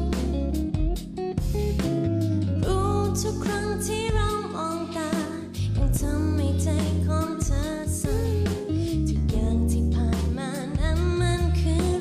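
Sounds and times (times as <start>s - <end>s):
woman singing into microphone: 0.0s - 0.6s, 2.6s - 12.0s
guitar: 0.0s - 12.0s
low bass: 0.0s - 12.0s.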